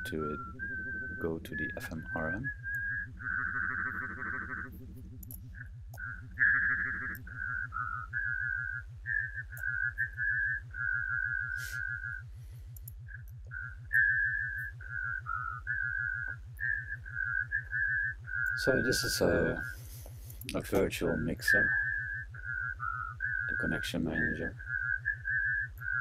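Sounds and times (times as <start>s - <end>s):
low pulsing buzz: 0.0s - 26.0s
warbling whistle-like synth notes: 0.0s - 26.0s.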